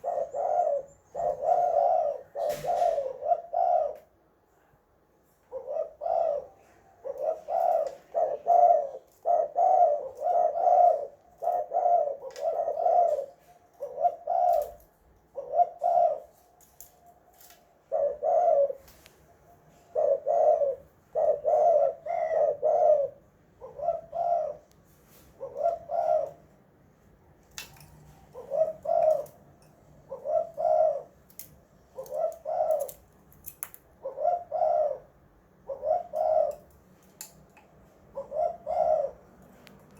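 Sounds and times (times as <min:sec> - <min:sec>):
dove cooing: 0:00.0 - 0:04.2, 0:05.4 - 0:26.7, 0:27.7 - 0:33.1, 0:33.9 - 0:36.7, 0:37.9 - 0:39.6.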